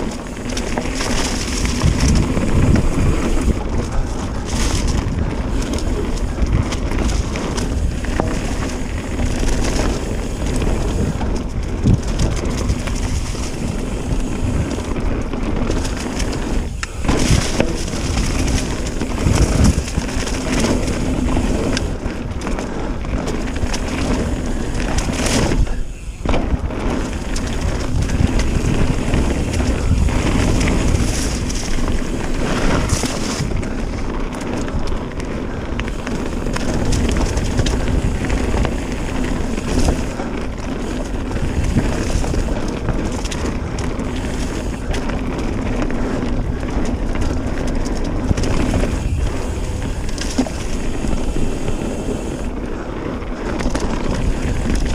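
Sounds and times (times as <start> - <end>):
bike knocking and rattling: 0.0 - 54.9
tyres on dirt and rock: 0.0 - 54.9
wind over microphone: 0.0 - 54.9.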